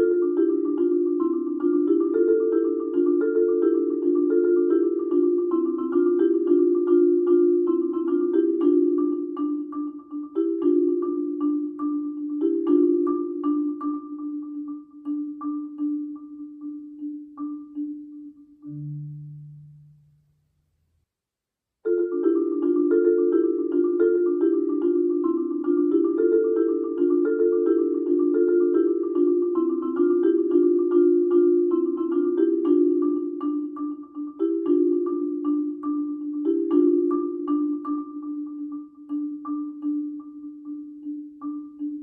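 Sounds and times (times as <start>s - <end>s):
marimba notes struck with mallets: 0.0s - 20.2s, 21.9s - 42.0s.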